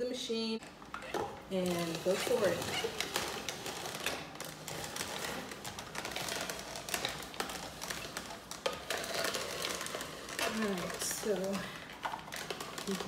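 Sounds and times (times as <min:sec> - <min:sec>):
juicer crank turning: 0:00.8 - 0:13.0
auger crushing root with crackles: 0:01.6 - 0:13.0.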